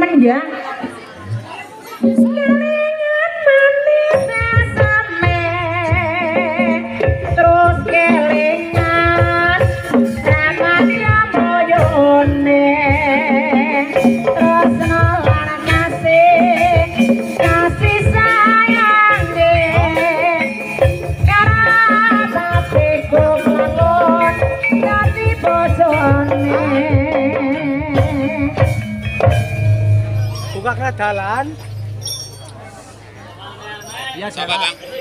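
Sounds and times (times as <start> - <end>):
ornamented melody line: 2.0 - 35.0.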